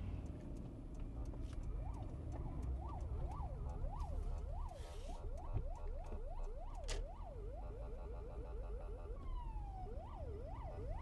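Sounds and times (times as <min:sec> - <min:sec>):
car engine rumbling: 0:00.0 - 0:11.0
police siren wailing: 0:01.8 - 0:11.0.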